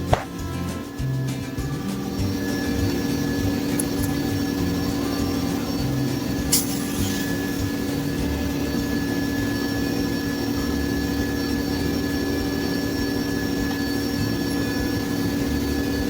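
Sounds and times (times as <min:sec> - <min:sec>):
machine-like hum: 0:00.0 - 0:16.0.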